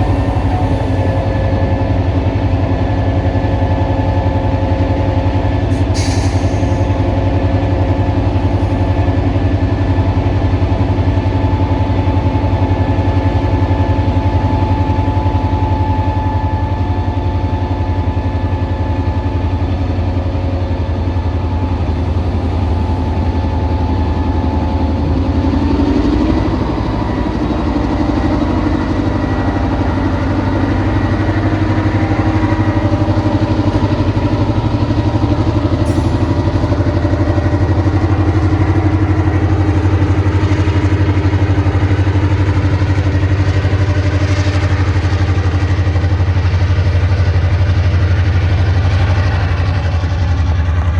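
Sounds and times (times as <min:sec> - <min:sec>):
diesel locomotive engine running: 0:00.0 - 0:50.9.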